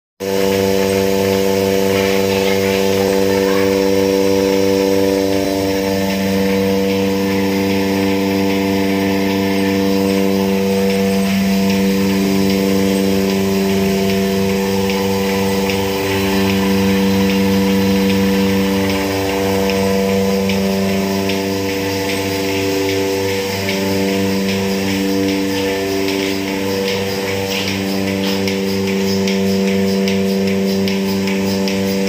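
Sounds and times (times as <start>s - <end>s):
vacuum pump humming and pulsing: 0.2s - 32.0s.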